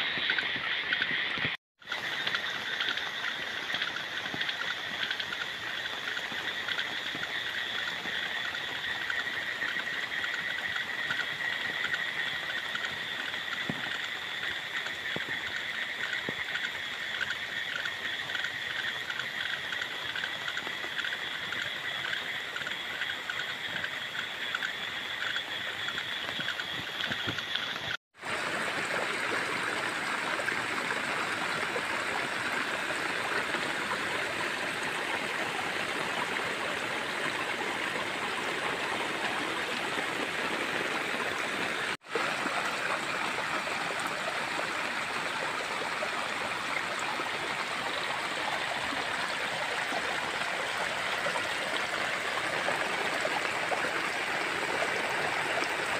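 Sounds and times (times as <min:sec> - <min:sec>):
rainwater running through grass: 0:00.0 - 0:55.9.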